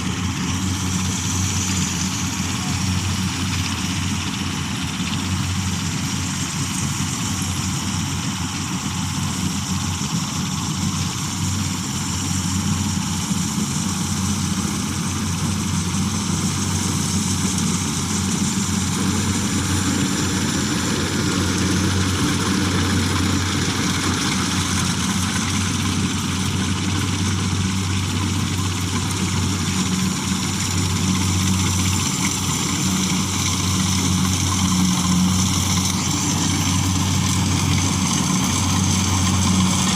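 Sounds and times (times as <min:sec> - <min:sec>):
combine harvester engine and machinery: 0:00.0 - 0:39.9.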